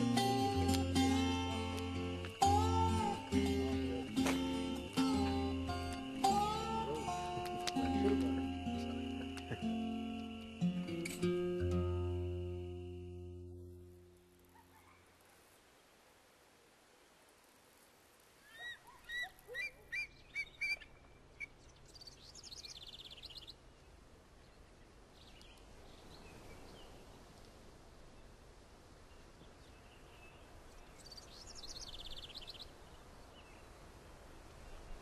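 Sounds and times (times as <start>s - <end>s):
faint outdoor hush: 0.0s - 35.0s.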